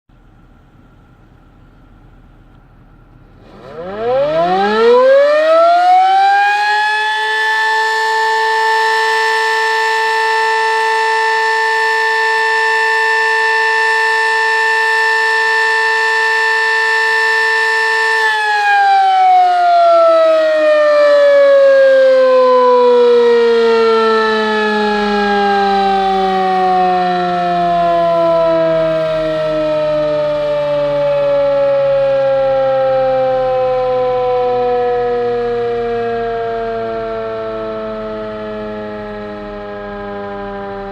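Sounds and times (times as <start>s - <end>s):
tornado siren winding: 3.4s - 40.9s.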